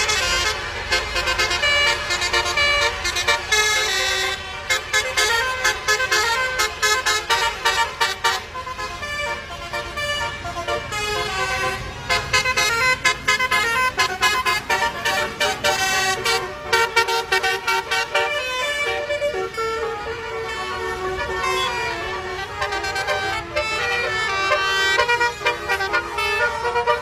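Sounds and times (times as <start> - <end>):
bus horn melody: 0.0 - 27.0.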